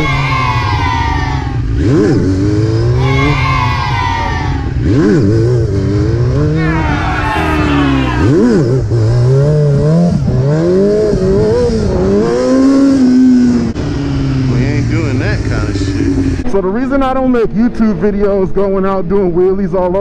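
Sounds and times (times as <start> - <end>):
motorcycle engine revving: 0.0 - 16.4.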